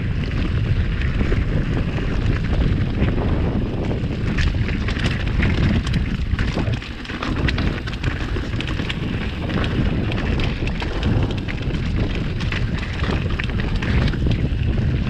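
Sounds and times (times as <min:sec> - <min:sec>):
bike rattling over stones: 0:00.0 - 0:15.0
tyres rumbling on gravel: 0:00.0 - 0:15.0
wind buffeting microphone: 0:00.0 - 0:15.0.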